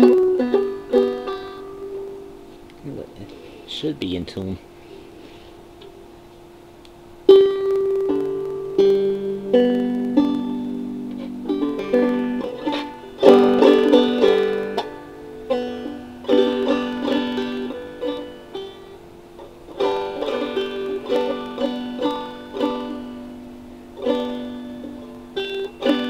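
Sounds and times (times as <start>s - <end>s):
banjo plucked and strummed: 0.0s - 2.3s, 7.3s - 26.0s.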